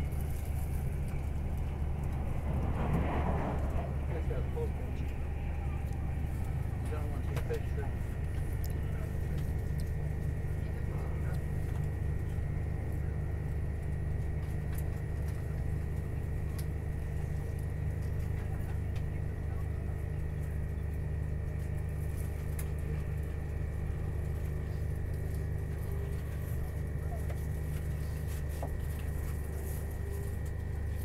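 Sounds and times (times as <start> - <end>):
constant high whine: 0.0 - 31.0
train rumble from inside carriage: 0.0 - 31.0.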